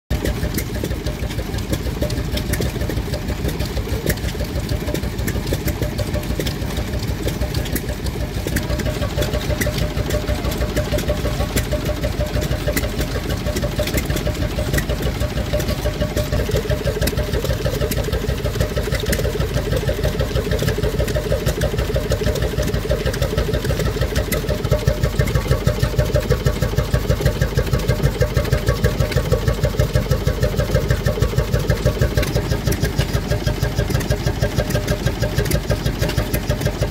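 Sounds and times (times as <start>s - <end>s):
two-stroke engine running: 0.1s - 36.9s.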